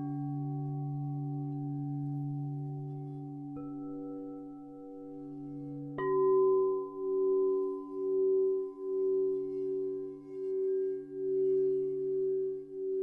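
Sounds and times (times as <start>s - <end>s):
singing bowl struck and wavering: 0.0s - 13.0s
steady singing bowl tones: 0.0s - 13.0s.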